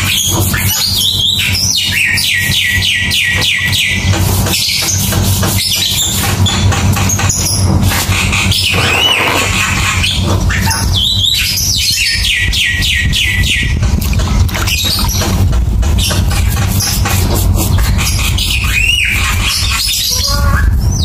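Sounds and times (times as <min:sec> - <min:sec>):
bird chirping and whistling: 0:00.0 - 0:06.6, 0:07.2 - 0:13.8, 0:14.6 - 0:15.4, 0:16.0 - 0:21.0.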